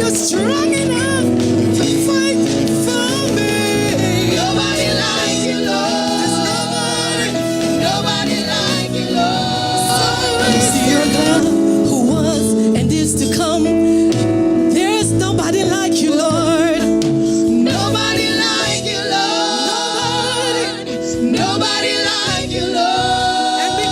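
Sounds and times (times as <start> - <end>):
gospel singing with vibrato: 0.0 - 23.9
instrumental accompaniment: 0.0 - 23.9.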